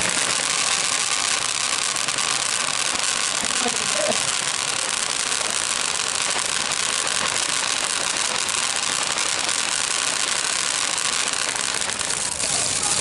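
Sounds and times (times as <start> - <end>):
firework fountains hissing and crackling: 0.0 - 13.0.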